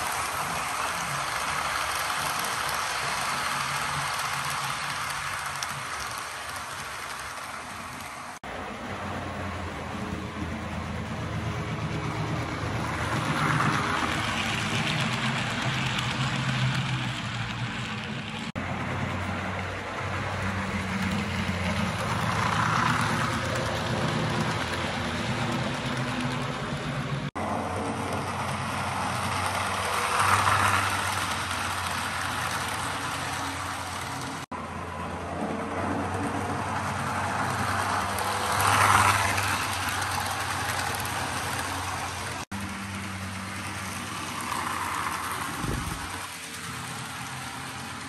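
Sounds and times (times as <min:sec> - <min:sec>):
model train rolling on track: 0:00.0 - 0:48.0.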